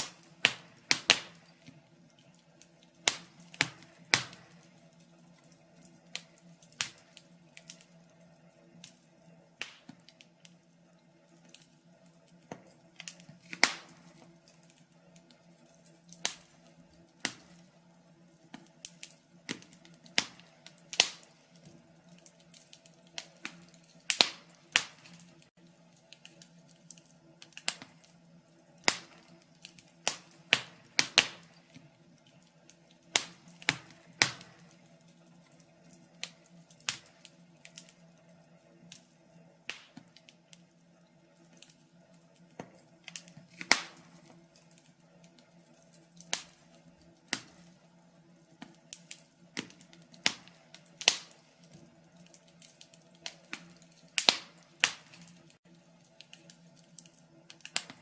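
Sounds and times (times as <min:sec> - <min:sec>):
low background hum: 0:00.0 - 0:58.0
wood fire crackling: 0:00.0 - 0:58.0.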